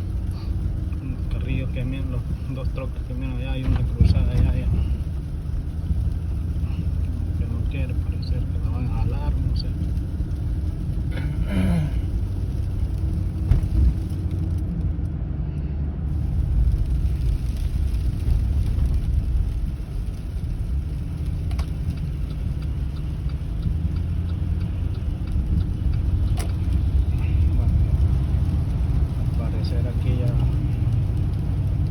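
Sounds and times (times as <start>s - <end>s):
car driving rumble inside cabin: 0.0s - 31.9s.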